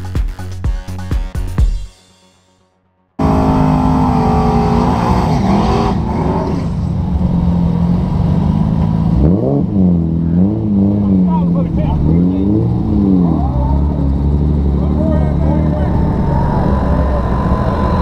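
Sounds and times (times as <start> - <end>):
car engine revving: 3.2 - 18.0
car engine starting and idling: 3.2 - 18.0.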